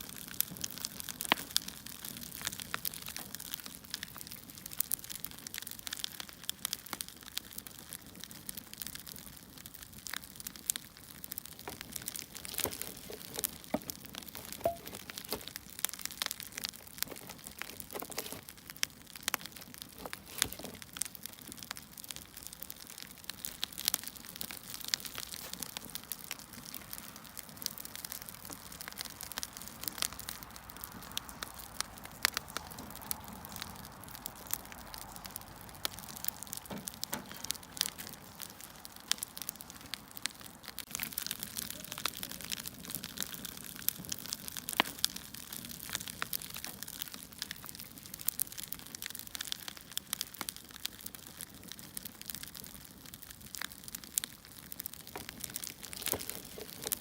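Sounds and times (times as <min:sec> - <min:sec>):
firewood crackling and popping: 0:00.0 - 0:57.0
soft steady fire hiss: 0:00.0 - 0:57.0.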